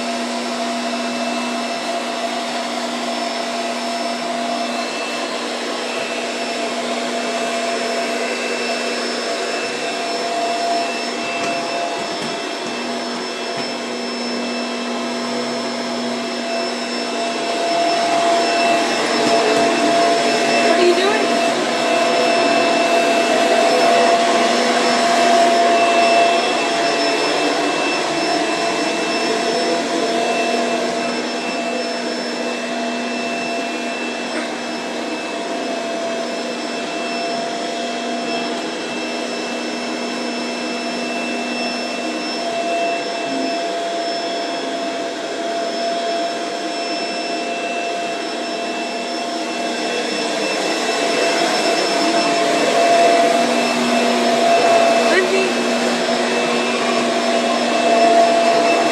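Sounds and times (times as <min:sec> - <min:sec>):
vacuum cleaner running: 0:00.0 - 0:58.9.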